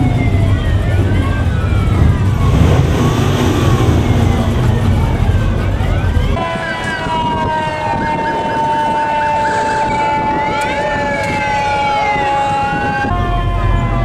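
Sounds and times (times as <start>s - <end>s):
emergency vehicle sirens wailing: 0.0s - 14.0s
low vehicle rumble: 0.0s - 14.0s.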